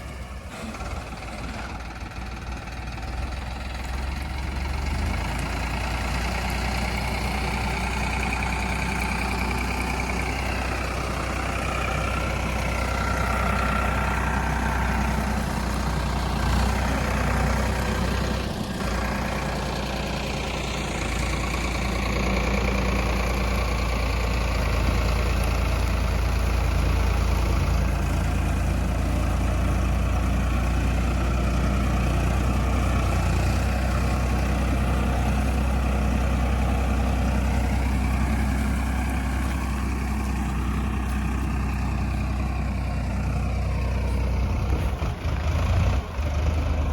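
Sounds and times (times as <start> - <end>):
diesel tractor engine humming: 0.0 - 46.9.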